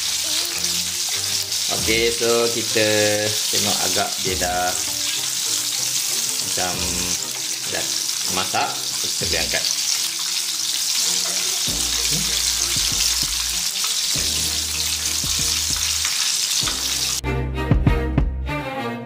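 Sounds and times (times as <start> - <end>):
chicken deep-frying in oil: 0.0 - 17.2
music: 0.0 - 19.0.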